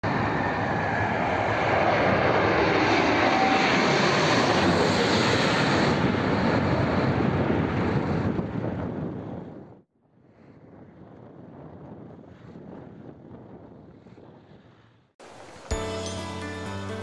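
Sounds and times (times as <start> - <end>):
jet airliner passing overhead: 0.0 - 15.7.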